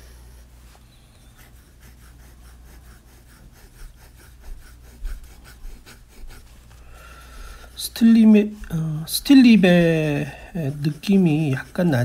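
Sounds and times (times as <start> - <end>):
fountain pen scratching on paper: 1.3 - 6.8, 7.7 - 12.0.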